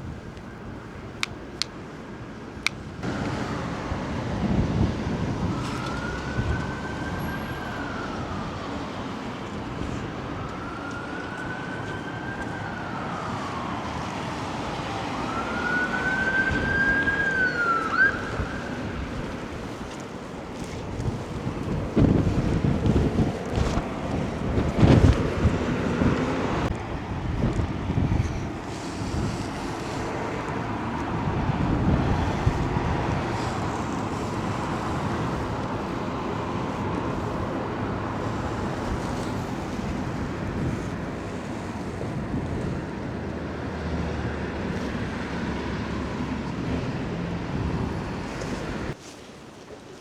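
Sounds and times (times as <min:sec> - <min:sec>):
wind buffeting microphone: 0:00.0 - 0:01.8, 0:02.7 - 0:49.0
outdoor street noise: 0:00.0 - 0:50.0.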